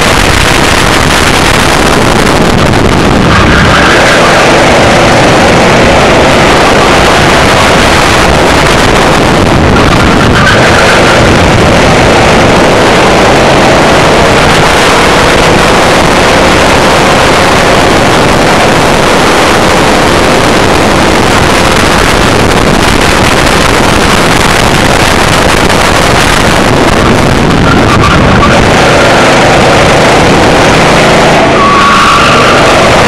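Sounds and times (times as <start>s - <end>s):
go-kart engine running hard: 0.0s - 33.0s
wind rush on microphone: 0.0s - 33.0s.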